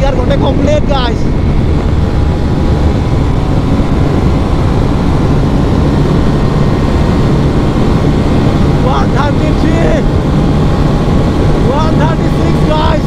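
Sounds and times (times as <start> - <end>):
motorcycle engine at high revs: 0.0 - 13.0
wind rushing: 0.0 - 13.0.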